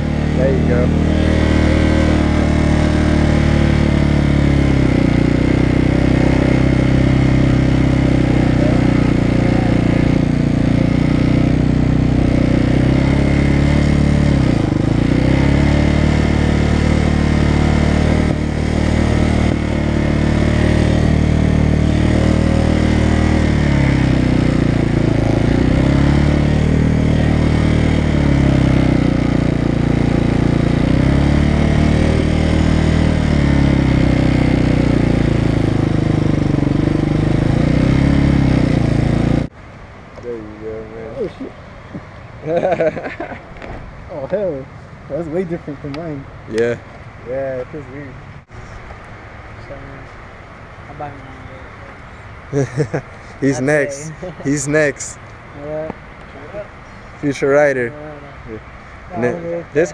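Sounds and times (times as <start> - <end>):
motorcycle engine running: 0.0 - 39.6, 50.8 - 59.9.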